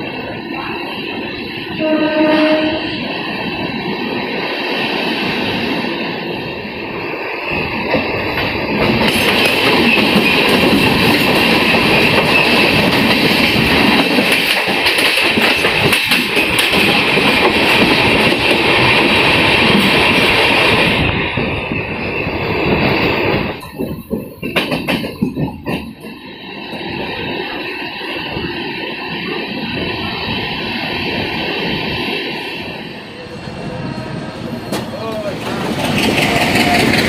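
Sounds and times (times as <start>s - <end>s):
passing train wheels and rail noise: 0.0s - 37.0s
train running noise: 0.0s - 37.0s.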